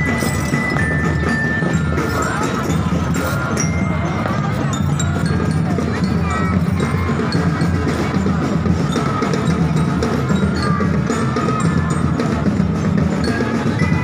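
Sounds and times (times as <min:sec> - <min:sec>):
crowd noise: 0:00.0 - 0:14.0
drumming and percussion: 0:00.0 - 0:14.0.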